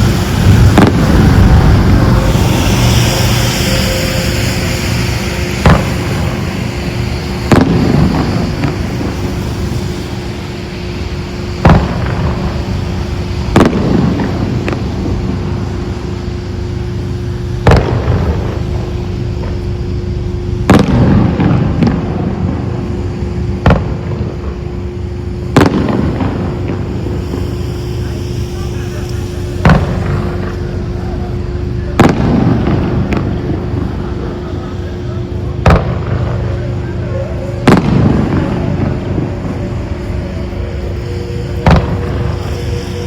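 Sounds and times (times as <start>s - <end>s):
fireworks bangs: 0.0s - 43.0s
fireworks crackle: 0.0s - 43.0s
low rumble: 0.0s - 43.0s.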